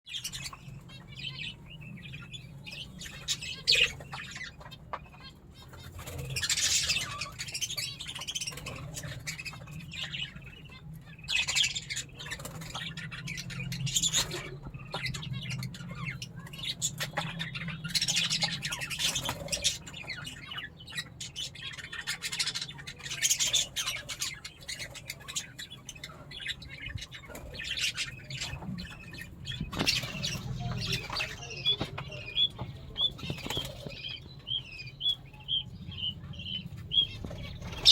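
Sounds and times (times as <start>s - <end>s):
budgerigars chirping and squawking: 0.1s - 37.9s.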